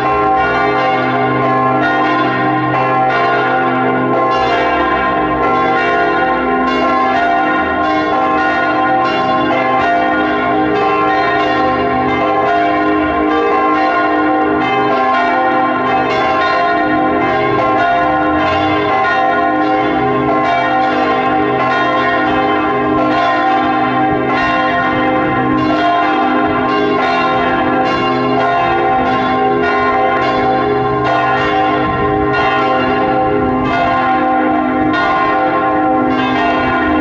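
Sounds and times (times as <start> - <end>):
church bells pealing: 0.0 - 37.0.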